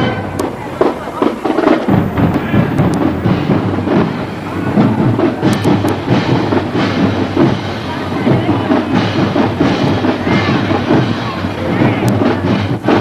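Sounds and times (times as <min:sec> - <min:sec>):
drumline beat: 0:00.0 - 0:13.0
marching band playing: 0:00.0 - 0:13.0.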